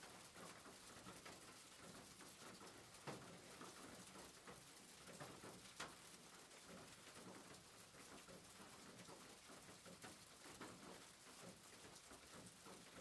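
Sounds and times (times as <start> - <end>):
faint steady rain: 0.0 - 13.0.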